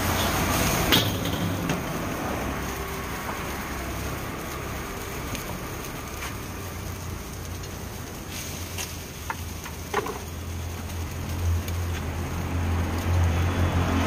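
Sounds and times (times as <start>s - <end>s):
food sizzling in a wok: 0.0s - 14.0s
gas burner roar: 0.0s - 14.0s.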